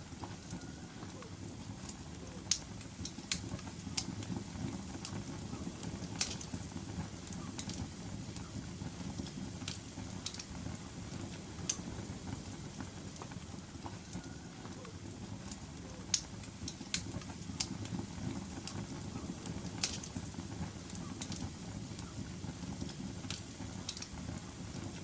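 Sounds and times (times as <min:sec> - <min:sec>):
fire crackling and popping: 0:00.0 - 0:25.0
wood fire rushing flame: 0:00.0 - 0:25.0.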